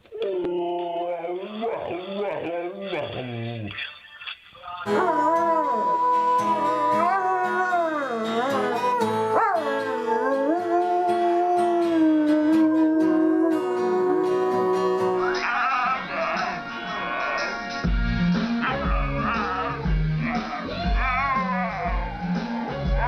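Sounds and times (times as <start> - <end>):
dog howling: 0.0 - 3.6, 4.9 - 17.5, 18.7 - 23.0.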